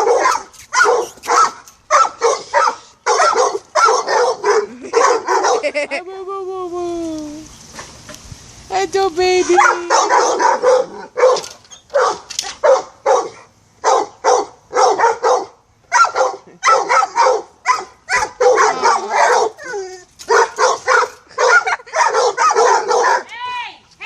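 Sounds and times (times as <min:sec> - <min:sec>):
dogs barking: 0:00.0 - 0:05.8, 0:09.6 - 0:23.3.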